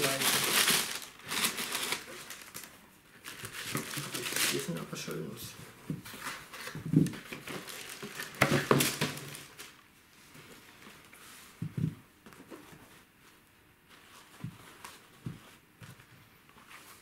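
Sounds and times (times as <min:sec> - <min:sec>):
tissue paper rustling: 0:00.0 - 0:05.0, 0:06.0 - 0:15.7.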